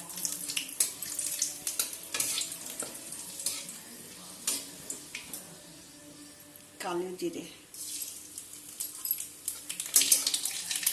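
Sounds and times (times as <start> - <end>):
leaves sizzling in hot oil: 0.0 - 5.6, 7.7 - 10.9.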